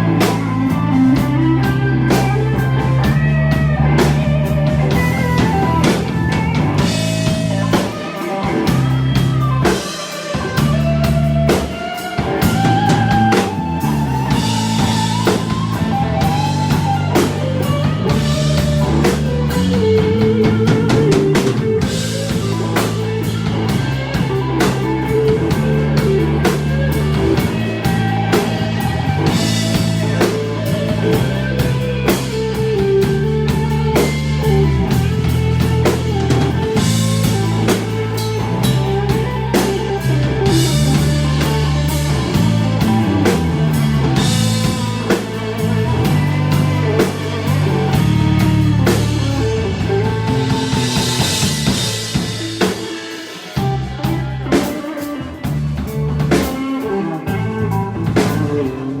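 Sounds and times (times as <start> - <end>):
bass line: 0.0 - 59.0
drum kit with cymbals: 0.0 - 59.0
lead guitar with bent notes: 0.0 - 59.0.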